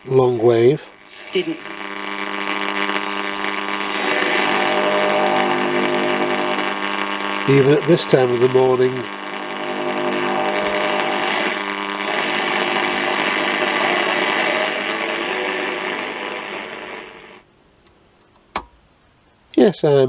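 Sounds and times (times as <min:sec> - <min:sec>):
radio static hiss: 0:00.0 - 0:17.5
faint steady tones: 0:00.0 - 0:17.6.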